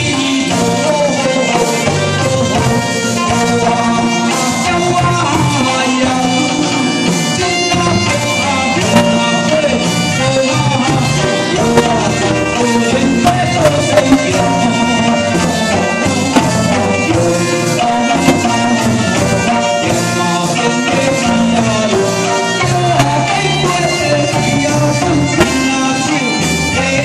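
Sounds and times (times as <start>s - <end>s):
electric guitar: 0.0s - 27.0s
keyboard: 0.0s - 27.0s
man singing through microphone: 0.0s - 27.0s.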